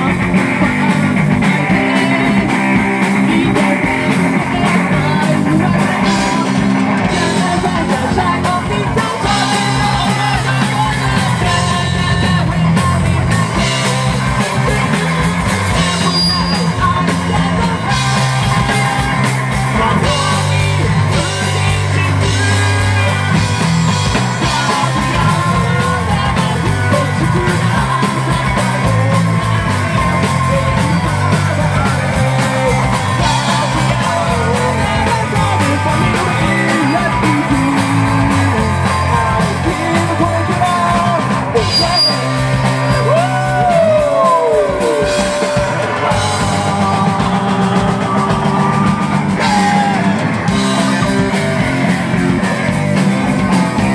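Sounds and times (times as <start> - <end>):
bass guitar: 0.0 - 53.9
drum kit: 0.0 - 53.9
electric guitar: 0.0 - 53.9
person singing: 0.0 - 53.9.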